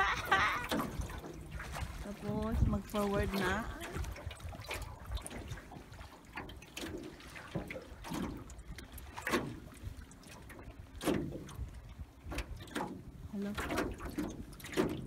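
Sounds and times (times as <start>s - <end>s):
water splashing against canoe: 0.0s - 15.0s.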